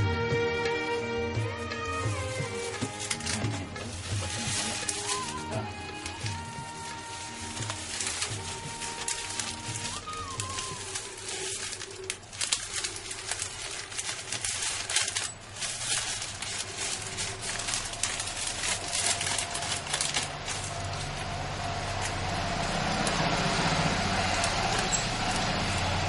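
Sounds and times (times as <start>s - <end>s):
plastic bag crinkling: 1.5s - 26.0s.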